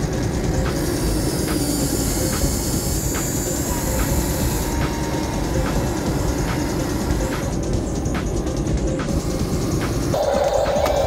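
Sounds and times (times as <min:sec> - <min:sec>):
high whine: 0:00.0 - 0:11.0
toy excavator motors whirring: 0:00.0 - 0:11.0.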